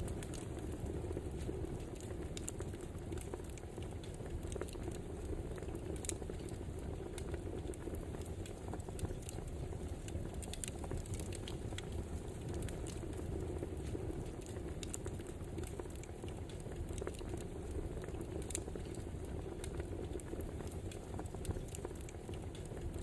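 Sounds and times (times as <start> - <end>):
firewood crackling and popping: 0.0 - 23.0
low rumble of flames: 0.0 - 23.0.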